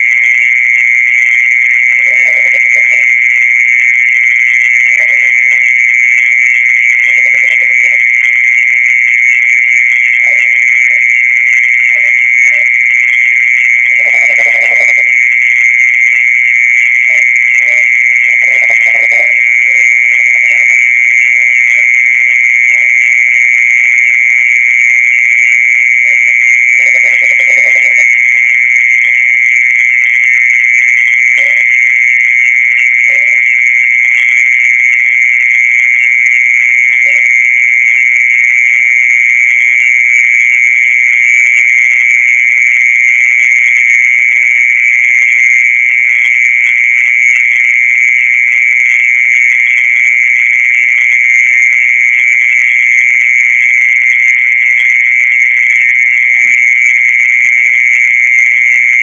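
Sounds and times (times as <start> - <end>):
mole cricket high-pitched trill: 0.0 - 59.0.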